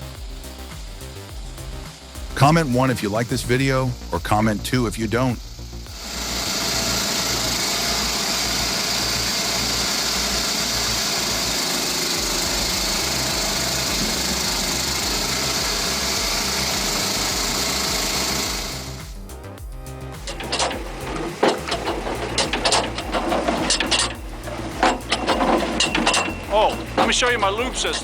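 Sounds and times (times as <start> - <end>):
small engine droning: 5.4 - 28.0.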